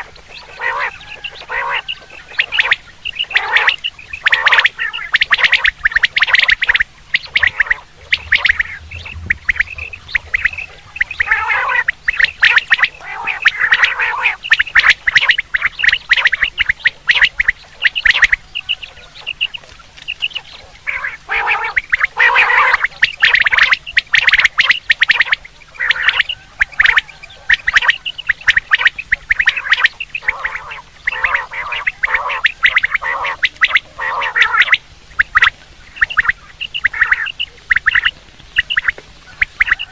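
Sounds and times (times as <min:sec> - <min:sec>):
quail calls: 0:00.0 - 0:39.9.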